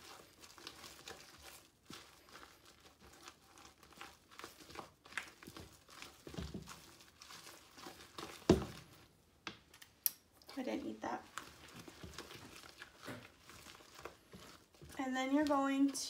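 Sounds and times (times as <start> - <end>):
spatula scraping and squishing: 0.0 - 9.2, 10.5 - 16.0.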